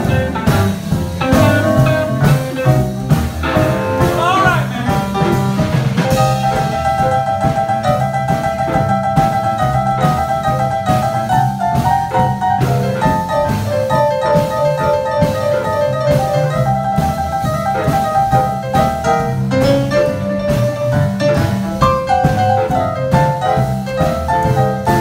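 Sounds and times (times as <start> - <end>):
electric keyboard: 0.0 - 25.0
steady drum beat: 0.0 - 25.0
stepping melody line: 0.0 - 25.0
upright bass: 0.0 - 25.0.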